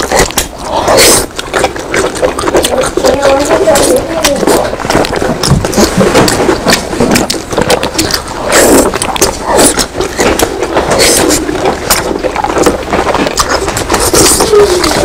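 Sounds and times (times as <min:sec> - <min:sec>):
chewing and wet mouth smacks: 0:00.0 - 0:15.0.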